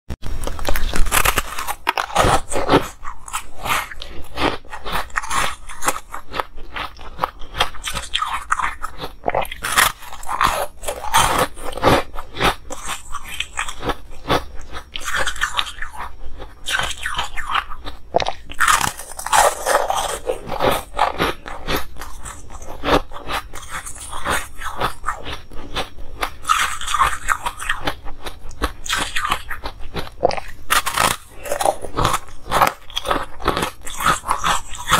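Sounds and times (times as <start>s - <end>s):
chewing ice crunches: 0.4s - 34.9s.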